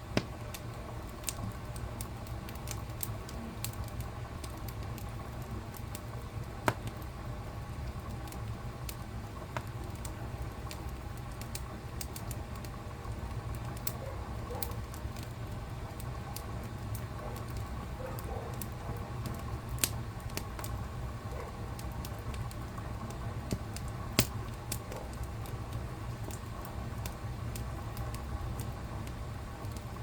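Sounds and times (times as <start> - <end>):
fire popping loudly: 0.0 - 30.0
wood fire crackling: 0.0 - 30.0.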